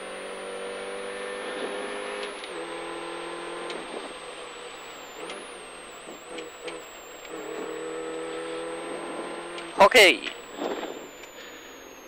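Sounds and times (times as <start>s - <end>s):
car engine from inside cabin: 0.0s - 12.0s.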